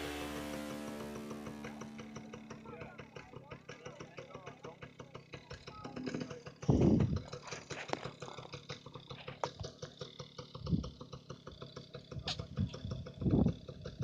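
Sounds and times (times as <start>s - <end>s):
dirt bike engine idling: 0.0s - 14.0s.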